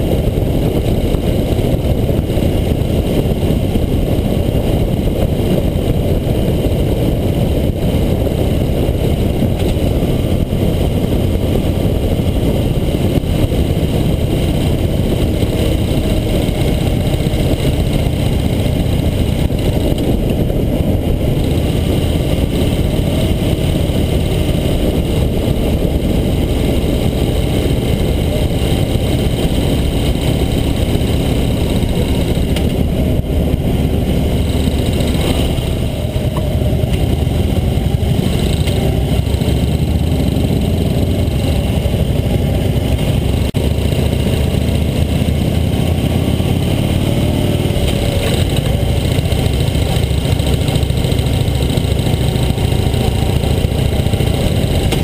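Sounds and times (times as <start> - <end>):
motorcycle engine rumble: 0.0 - 55.0
wind rushing over microphone: 0.0 - 55.0.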